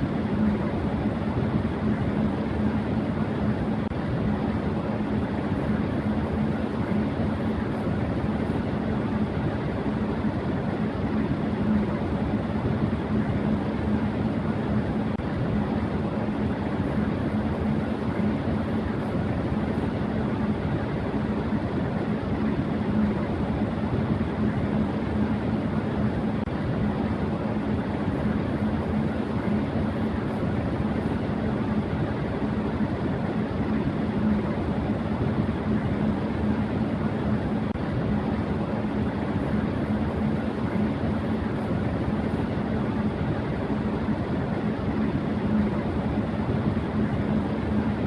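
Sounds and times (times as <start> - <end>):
electric fan running: 0.0 - 48.0.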